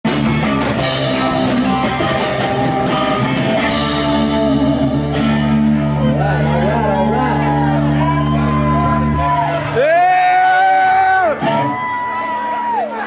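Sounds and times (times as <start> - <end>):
electric guitar strumming: 0.0 - 12.8
live rock band playing: 0.0 - 13.0.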